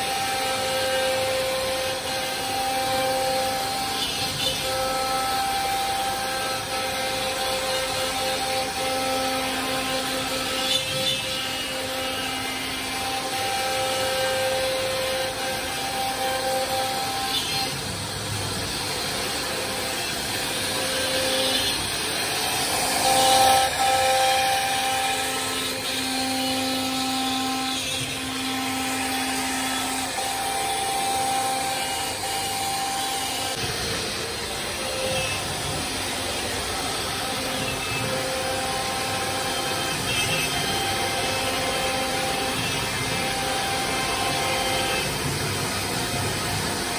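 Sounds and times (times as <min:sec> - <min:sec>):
pitched machine whines: 0:00.0 - 0:46.9
router bit cutting wood: 0:00.0 - 0:46.9.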